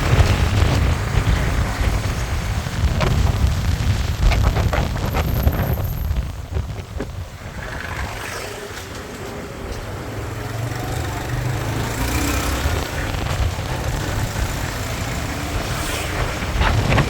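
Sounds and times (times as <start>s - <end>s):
motorbike engine: 0.0s - 17.0s
road traffic noise: 0.0s - 17.0s
wind rumble on microphone: 0.0s - 17.0s.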